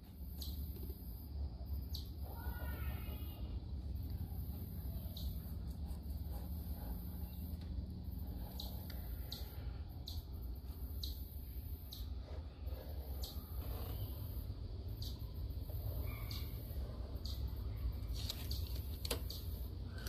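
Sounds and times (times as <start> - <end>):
low steady rumble: 0.0 - 20.0
small bird chirping: 0.1 - 20.0.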